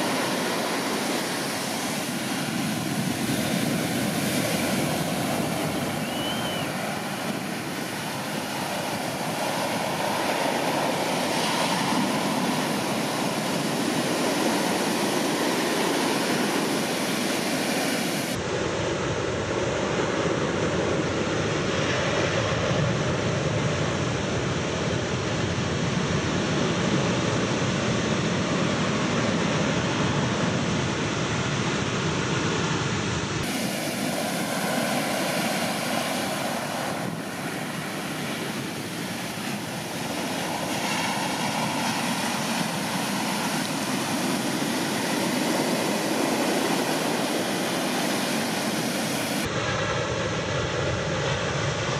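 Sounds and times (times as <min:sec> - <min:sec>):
surf crashing on beach: 0:00.0 - 0:51.9.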